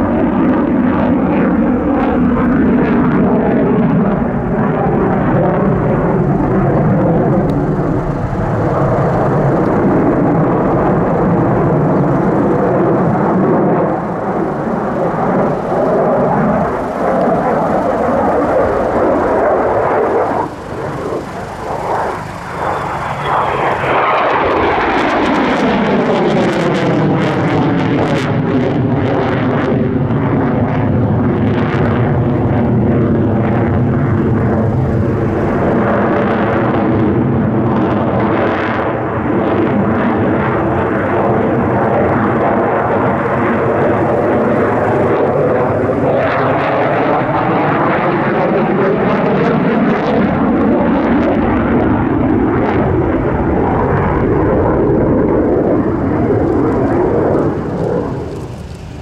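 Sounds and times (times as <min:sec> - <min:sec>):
jet engines roaring overhead: 0:00.0 - 0:59.0.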